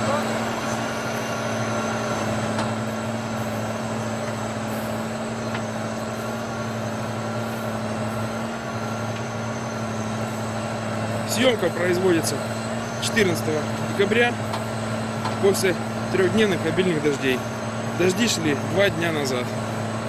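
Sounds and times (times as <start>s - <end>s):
tractor engine droning under load: 0.0s - 20.0s.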